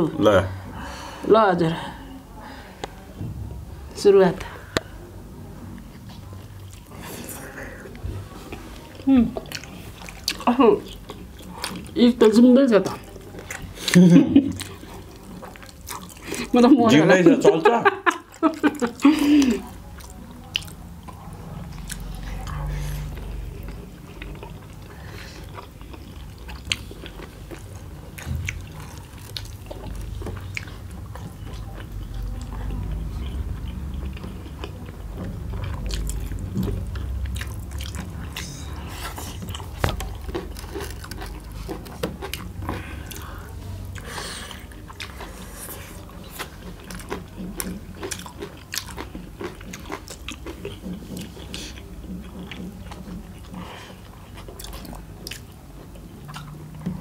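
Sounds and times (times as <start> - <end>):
people chewing with wet mouth clicks: 5.7 - 16.7, 18.0 - 57.0.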